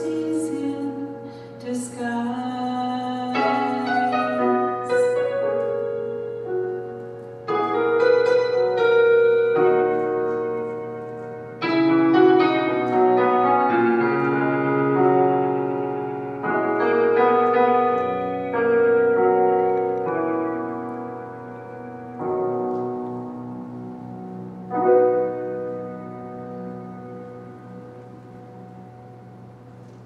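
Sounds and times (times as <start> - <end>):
piano playing slow chords: 0.0 - 30.0.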